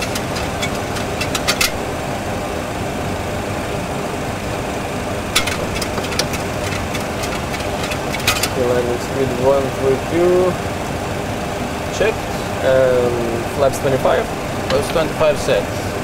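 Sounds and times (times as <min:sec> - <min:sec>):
engine and airflow rumble: 0:00.0 - 0:16.0.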